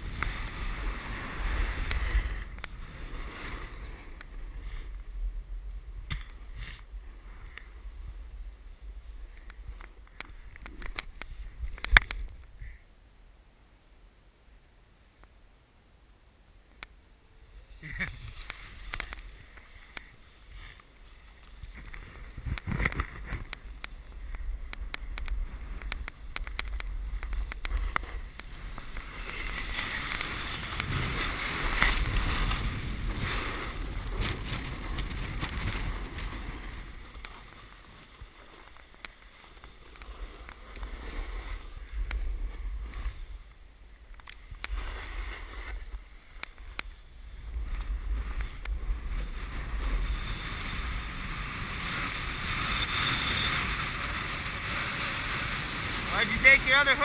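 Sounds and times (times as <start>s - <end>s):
snowboard scraping over snow: 0.0s - 9.8s, 17.3s - 57.0s
wind rumbling on microphone: 0.0s - 12.8s, 17.4s - 57.0s.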